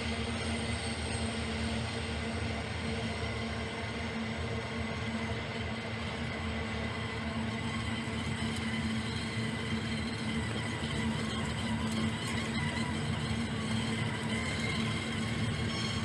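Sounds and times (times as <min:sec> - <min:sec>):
constant low hum: 0:00.0 - 0:16.0
train passing: 0:00.0 - 0:16.0.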